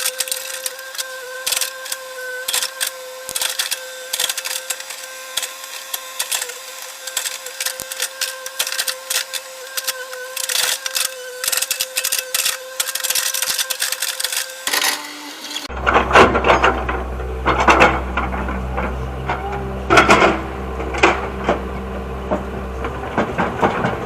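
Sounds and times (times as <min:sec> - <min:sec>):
clattering and rattling: 0:00.0 - 0:24.0
excavator whine: 0:00.0 - 0:24.0.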